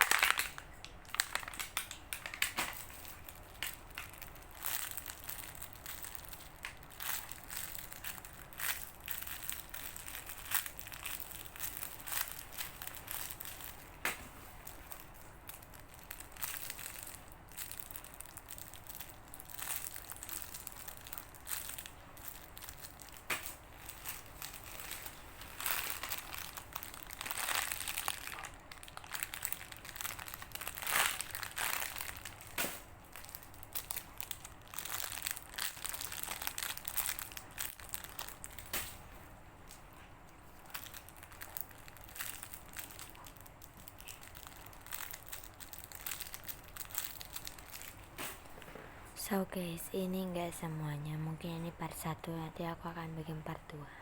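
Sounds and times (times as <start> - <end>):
foam toys crinkling and scrunching: 0.0 - 49.0.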